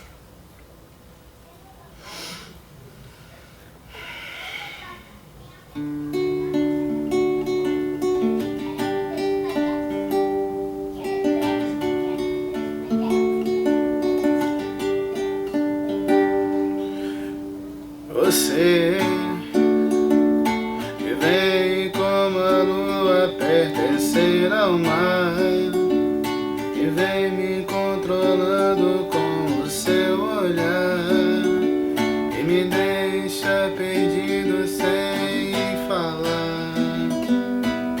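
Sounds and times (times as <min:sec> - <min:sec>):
plucked strings playing chords: 0:05.8 - 0:38.0
person singing: 0:06.1 - 0:38.0.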